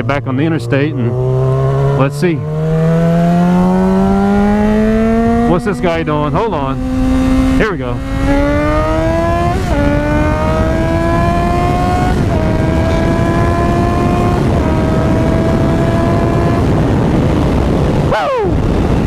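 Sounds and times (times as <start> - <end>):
motorcycle engine accelerating hard: 0.0 - 19.0.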